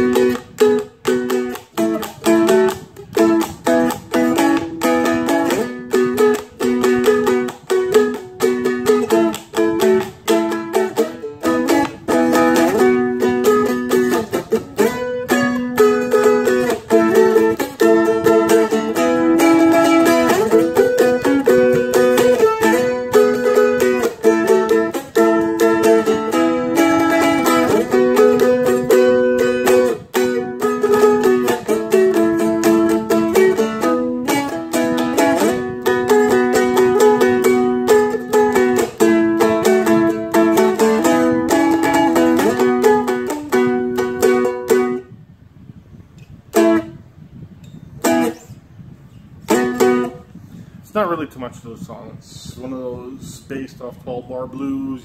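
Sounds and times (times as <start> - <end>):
dulcimer strummed fast: 0.0 - 45.0.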